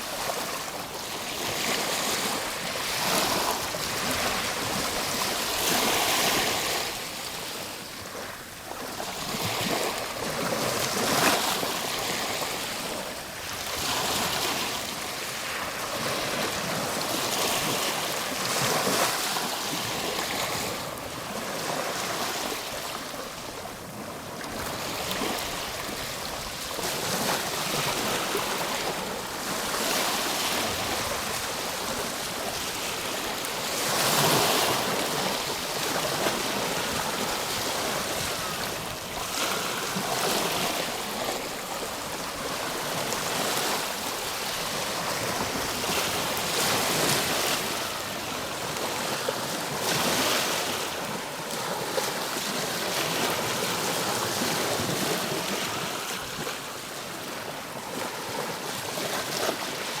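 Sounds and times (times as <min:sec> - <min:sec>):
ocean waves breaking on shore: 0:00.0 - 1:00.0.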